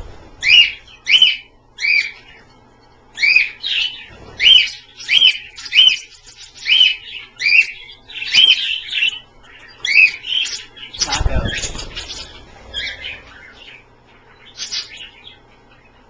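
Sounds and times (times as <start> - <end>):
parrot chirping: 0.4 - 2.5, 3.1 - 16.0.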